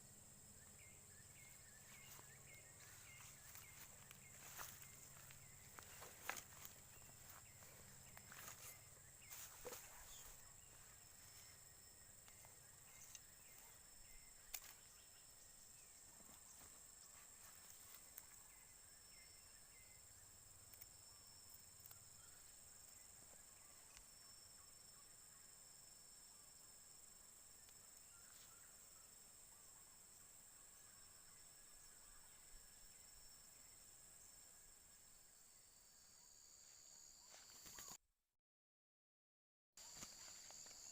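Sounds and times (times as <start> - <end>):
insects droning: 0.0 - 38.0, 39.8 - 40.9.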